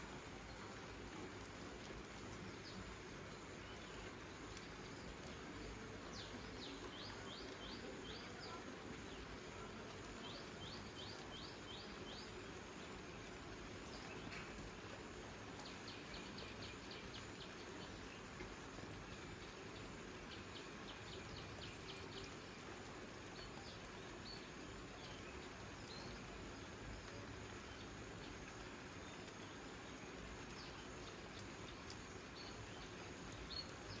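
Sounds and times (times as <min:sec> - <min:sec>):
soft outdoor hiss: 0:00.0 - 0:34.0
small songbird singing: 0:02.4 - 0:14.8, 0:15.5 - 0:34.0.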